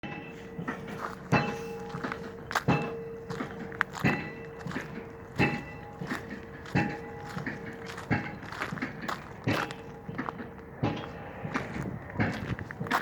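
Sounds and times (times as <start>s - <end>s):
pile driver hammer blows: 0.0s - 13.0s.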